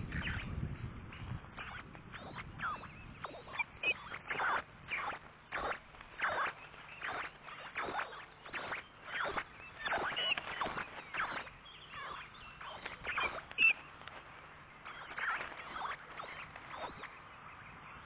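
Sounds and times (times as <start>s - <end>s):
osprey whistled calls: 0.0s - 18.0s.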